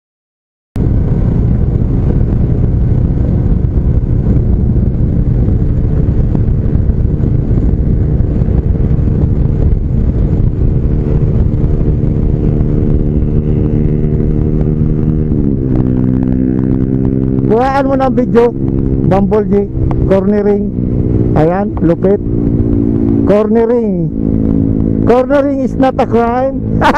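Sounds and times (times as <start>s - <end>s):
motorcycle engine running: 0.8s - 26.9s
wind noise: 0.8s - 26.9s.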